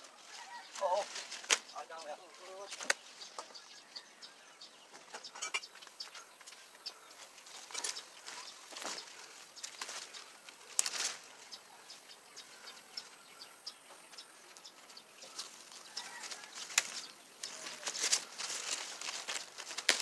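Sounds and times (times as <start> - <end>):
leaves rustling and crackling: 0.0 - 3.4, 5.8 - 20.0.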